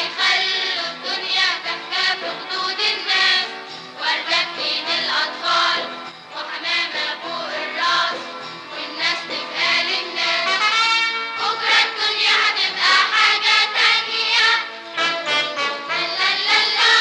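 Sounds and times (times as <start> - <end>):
group of voices singing: 0.0 - 17.0
instrumental accompaniment: 0.0 - 17.0.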